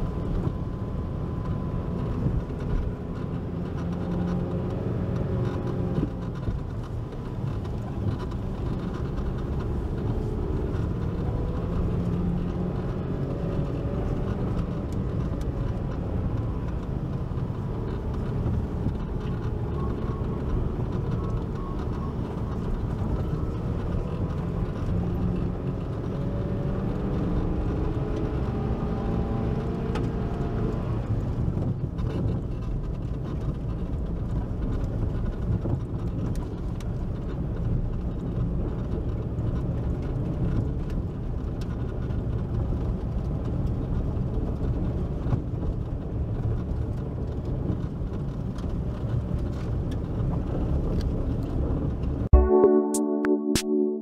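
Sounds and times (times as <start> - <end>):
car driving on dirt track: 0.0 - 52.3.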